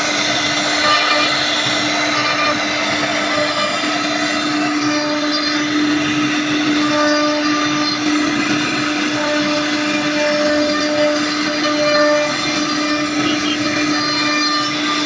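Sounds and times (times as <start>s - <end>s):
cutting hiss: 0.0s - 15.0s
router motor whine: 0.0s - 15.0s.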